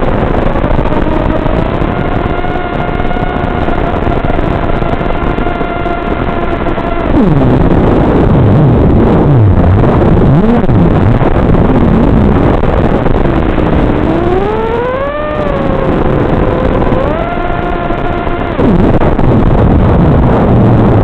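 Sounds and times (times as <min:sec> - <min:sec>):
quadcopter motor whine: 0:00.0 - 0:21.0
rushing wind noise: 0:00.0 - 0:21.0.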